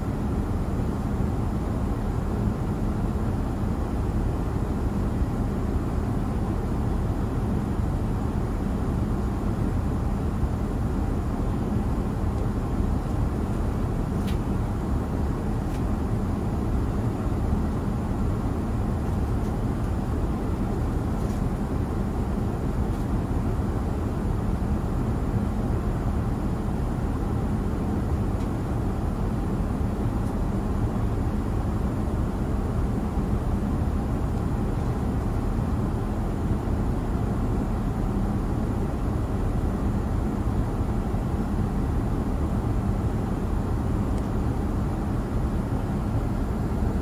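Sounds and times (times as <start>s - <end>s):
airliner cabin engine rumble: 0.0s - 47.0s.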